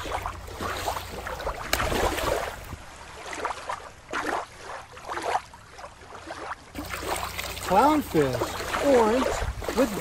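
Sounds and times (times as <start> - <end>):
water lapping and sloshing: 0.0 - 10.0.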